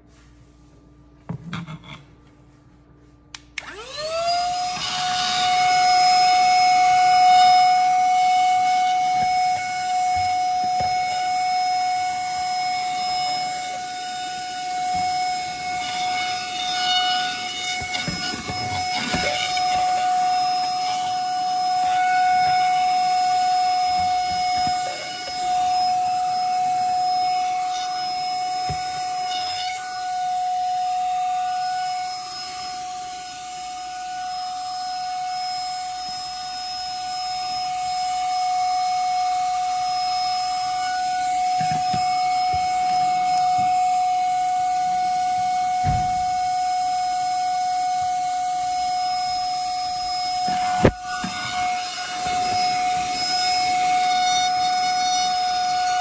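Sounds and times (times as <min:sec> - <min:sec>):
handheld vacuum motor whine: 0:03.6 - 0:56.0.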